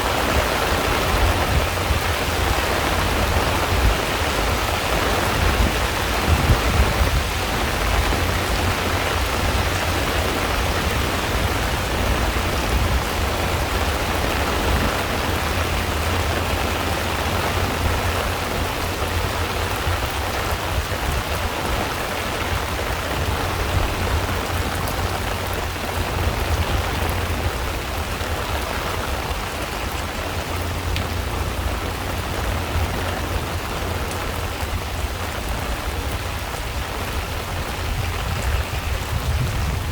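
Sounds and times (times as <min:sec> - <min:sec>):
heavy rain on pond: 0:00.0 - 0:39.9.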